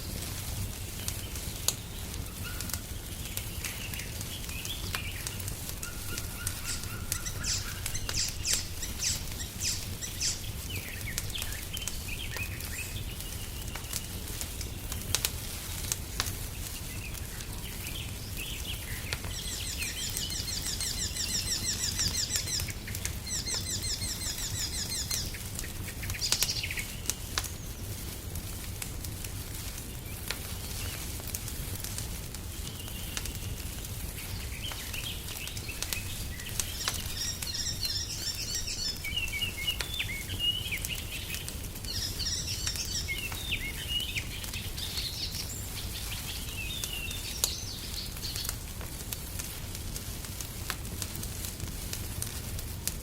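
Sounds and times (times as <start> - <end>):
songbirds singing: 0.0 - 28.1, 32.4 - 48.6
wood fire crackling: 0.0 - 53.0.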